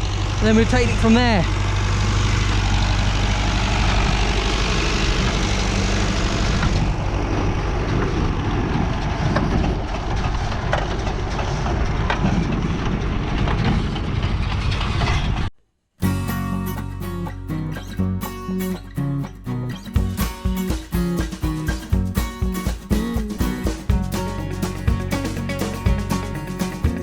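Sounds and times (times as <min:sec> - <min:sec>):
tractor engine running: 0:00.0 - 0:14.7, 0:16.0 - 0:27.0.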